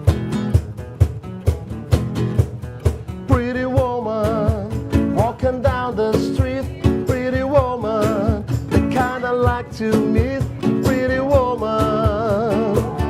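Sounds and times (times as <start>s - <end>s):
band playing: 0.0s - 13.0s
drums beating: 0.0s - 13.0s.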